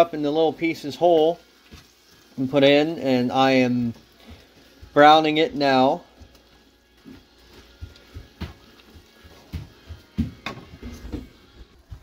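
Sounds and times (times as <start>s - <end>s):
meat sizzling: 0.0s - 11.8s.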